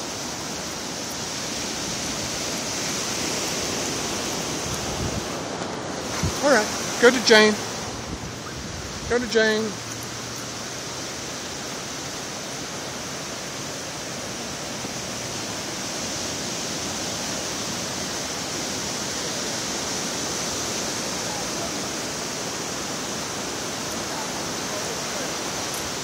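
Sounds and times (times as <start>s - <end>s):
ocean surf rushing: 0.0s - 26.0s.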